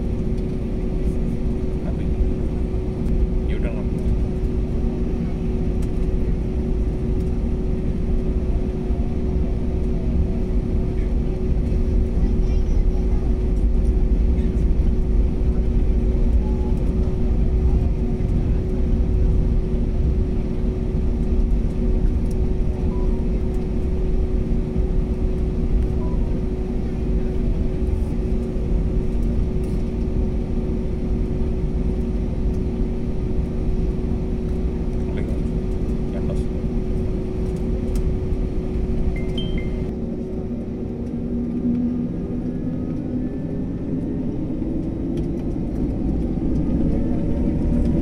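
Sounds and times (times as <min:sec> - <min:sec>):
constant cabin hum: 0:00.0 - 0:48.0
jet engine rumble: 0:00.0 - 0:48.0.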